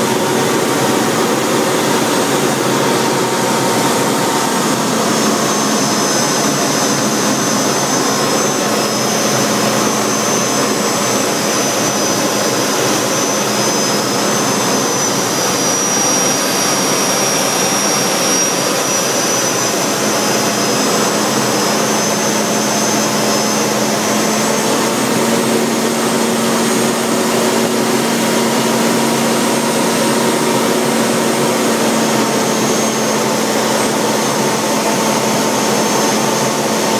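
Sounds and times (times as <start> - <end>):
jet engine roaring with high whine: 0.0 - 36.9.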